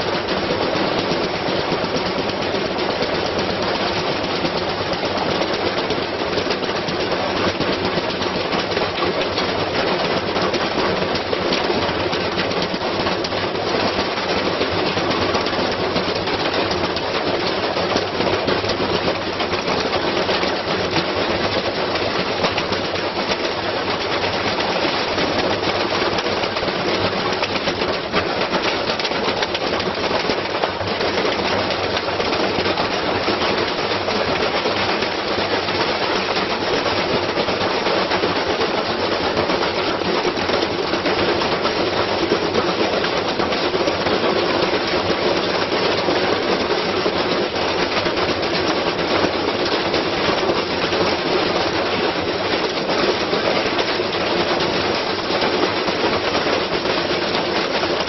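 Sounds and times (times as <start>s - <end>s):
washing machine clattering: 0.0s - 58.0s.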